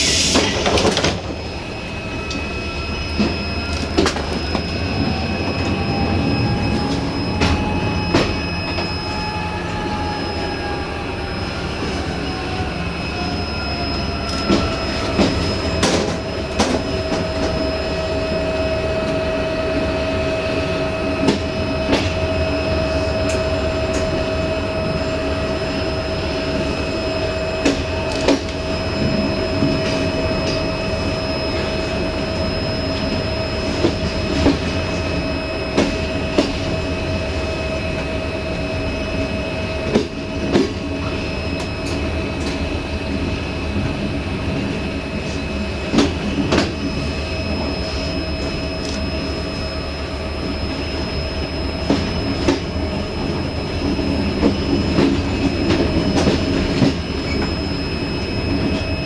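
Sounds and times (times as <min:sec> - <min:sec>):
train wheels rumbling on rail: 0:00.0 - 0:59.0
train whine: 0:00.0 - 0:59.0.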